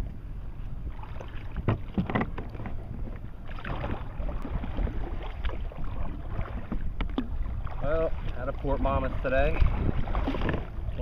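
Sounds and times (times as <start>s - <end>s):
wind rumbling on microphone: 0.0s - 11.0s
water splashing against kayak: 0.6s - 11.0s.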